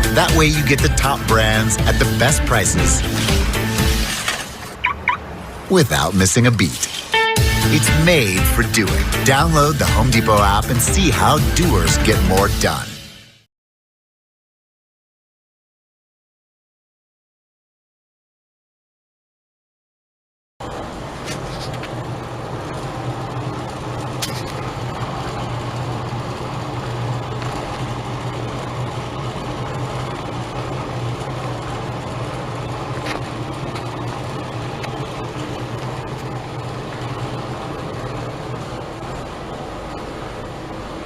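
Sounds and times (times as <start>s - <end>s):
exhaust fan rushing air: 0.0s - 12.8s, 20.6s - 41.0s.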